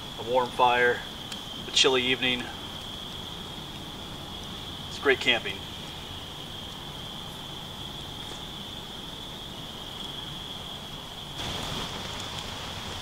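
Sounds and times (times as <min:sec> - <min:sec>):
campfire crackling: 0:00.0 - 0:13.0
insect chorus: 0:00.0 - 0:13.0.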